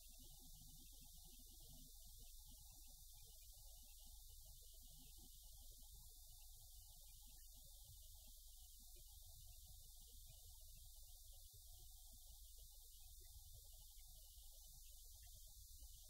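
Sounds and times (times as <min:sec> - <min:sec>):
faint low rumble with hiss: 0:00.0 - 0:16.0.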